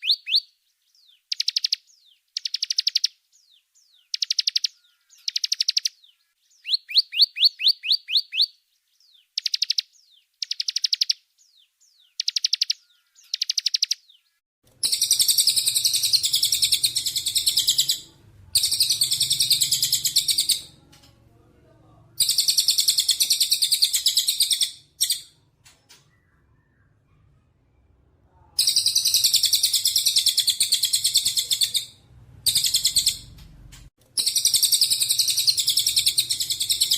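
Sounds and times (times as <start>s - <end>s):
songbirds chirping and trilling: 0.0s - 36.9s.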